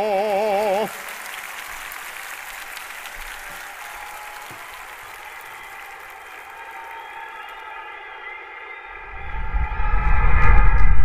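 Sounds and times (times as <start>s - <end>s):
applause: 0.0s - 8.9s.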